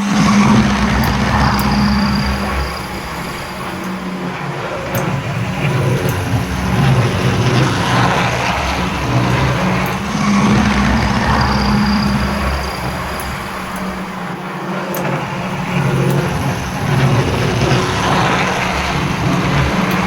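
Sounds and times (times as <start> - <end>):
electric motor humming: 0.0 - 20.0
model train wheels on track: 0.0 - 20.0.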